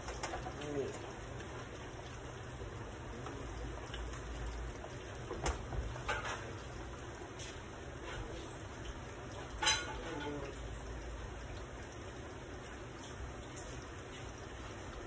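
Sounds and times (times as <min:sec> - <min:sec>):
food sizzling in pans: 0:00.0 - 0:15.0.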